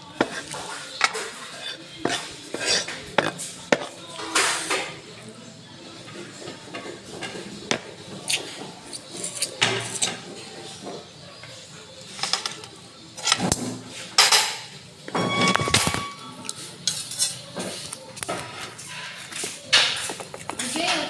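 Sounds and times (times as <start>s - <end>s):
cutlery clinking against dishes: 0.0s - 5.1s, 6.0s - 21.0s.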